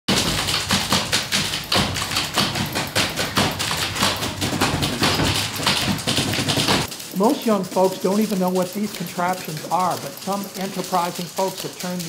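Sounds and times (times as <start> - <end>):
typewriter carriages thumping: 0.1 - 12.0
typewriter keys clacking: 0.1 - 12.0.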